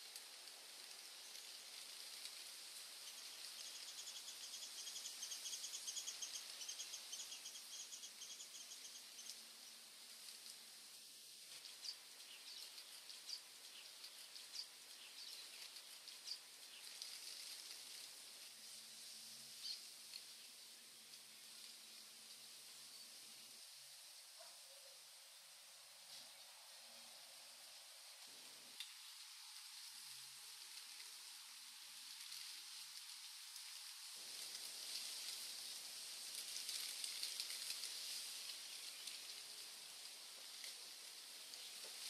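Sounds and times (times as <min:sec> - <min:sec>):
faint forest ambience: 0:00.0 - 0:42.0
steady high hiss: 0:00.0 - 0:42.0.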